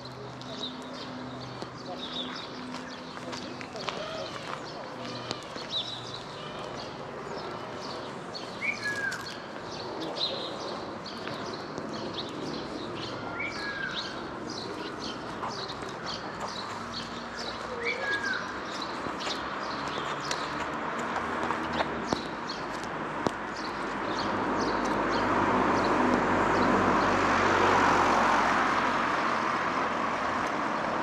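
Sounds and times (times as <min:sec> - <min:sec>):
small birds chirping: 0:00.0 - 0:27.3
outdoor background noise: 0:00.0 - 0:31.0.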